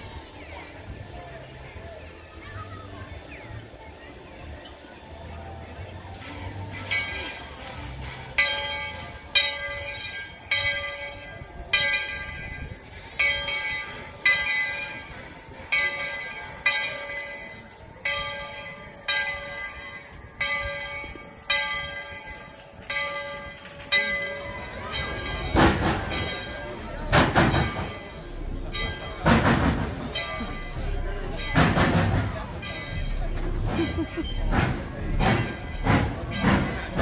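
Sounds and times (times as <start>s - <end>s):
locomotive bell ringing: 5.4s - 37.0s.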